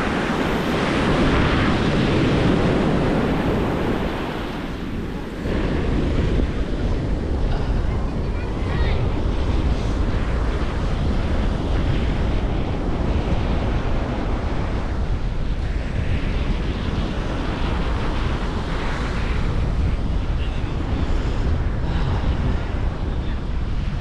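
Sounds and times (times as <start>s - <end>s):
ocean surf washing onto beach: 0.0s - 24.0s
wind buffeting microphone: 0.0s - 24.0s.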